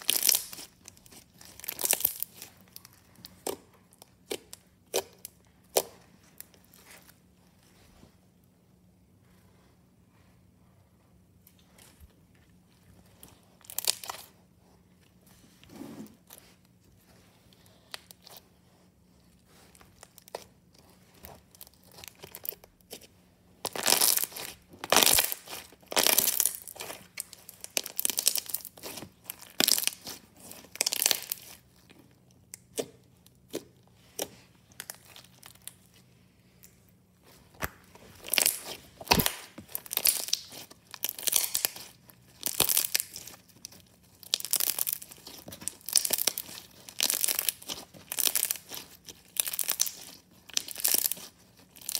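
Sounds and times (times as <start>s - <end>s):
slime kneaded by hand: 0.0s - 51.9s.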